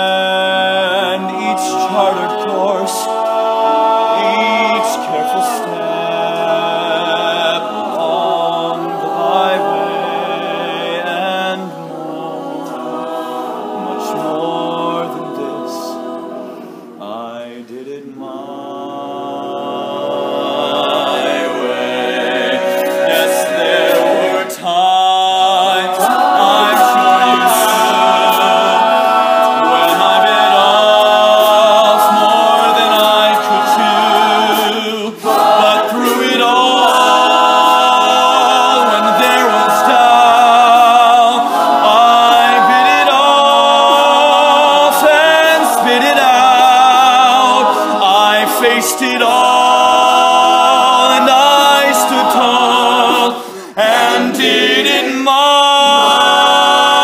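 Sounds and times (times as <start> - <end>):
male harmony backing voices: 0.0 - 57.0.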